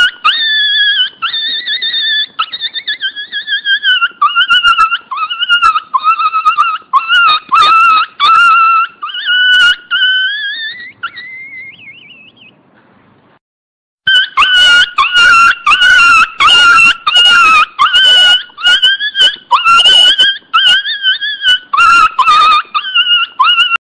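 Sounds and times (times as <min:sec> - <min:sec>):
puppy crying: 0:00.0 - 0:12.4, 0:14.1 - 0:23.8.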